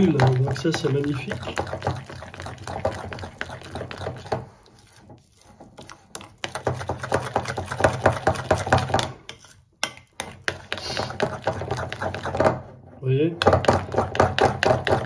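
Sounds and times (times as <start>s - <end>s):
spoon scraping glass bowl: 0.0s - 12.7s.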